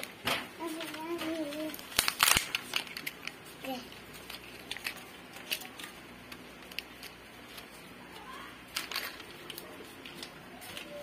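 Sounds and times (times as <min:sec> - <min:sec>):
paper rustling and creasing: 0:00.0 - 0:11.0.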